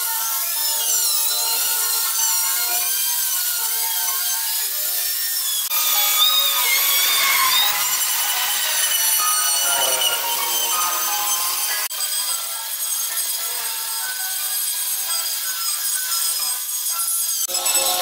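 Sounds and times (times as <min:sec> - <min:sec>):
die grinder whining into wood: 0:00.0 - 0:18.0.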